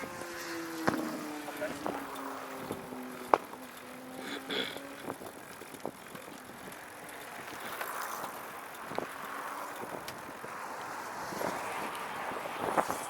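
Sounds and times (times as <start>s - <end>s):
tyre and wind noise: 0.0s - 13.0s.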